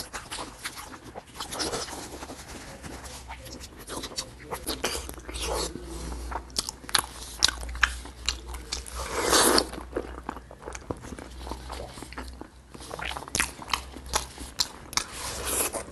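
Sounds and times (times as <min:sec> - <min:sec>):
wet chewing and smacking: 0:00.0 - 0:15.9.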